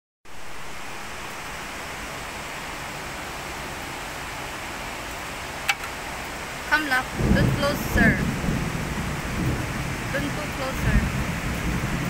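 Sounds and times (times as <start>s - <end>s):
heavy rain falling: 0.2s - 12.0s.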